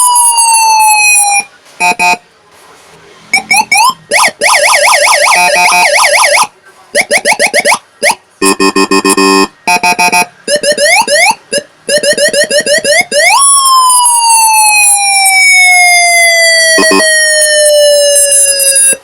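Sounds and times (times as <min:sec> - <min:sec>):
electronic police siren: 0:00.0 - 0:02.2, 0:03.3 - 0:19.0.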